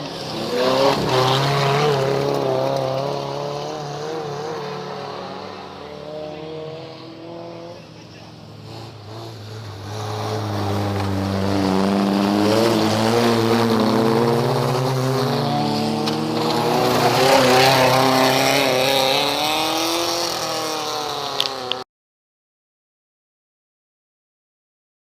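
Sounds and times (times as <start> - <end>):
race car engines at high revs: 0.0 - 21.8.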